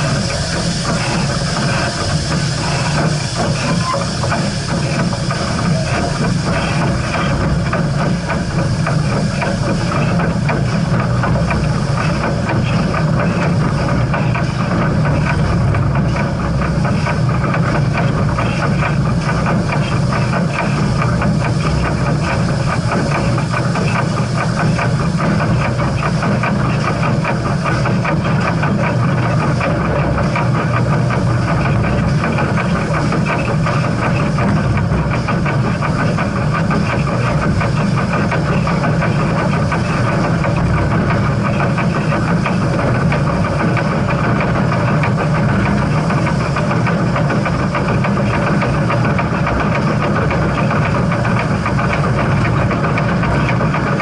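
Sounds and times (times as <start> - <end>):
high noisy hiss: 0.0 - 54.0
steam train rumbling: 0.0 - 54.0.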